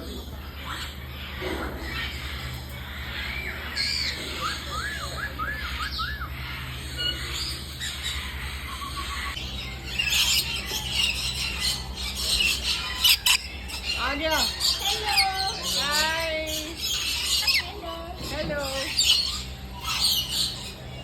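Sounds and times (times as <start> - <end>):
birds whistling and chirping: 0.0 - 21.0
steady low hum: 0.0 - 21.0.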